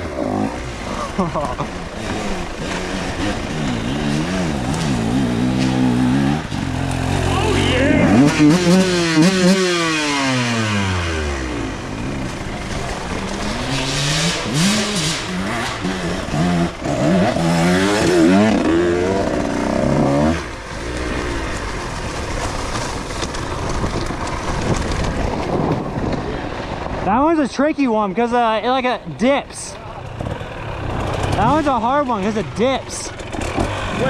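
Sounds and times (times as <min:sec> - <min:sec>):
dirt bike engine revving: 0:00.0 - 0:26.7, 0:28.6 - 0:34.0.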